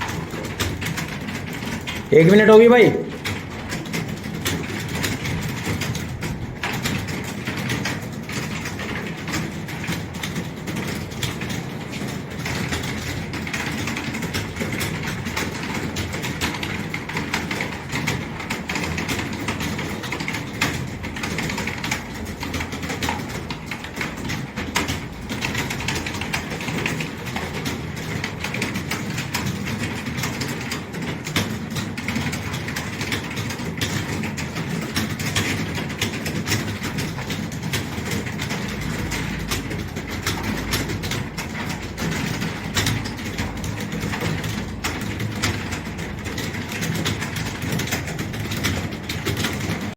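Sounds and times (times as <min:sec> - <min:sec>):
many keyboards clattering: 0:00.0 - 0:49.9.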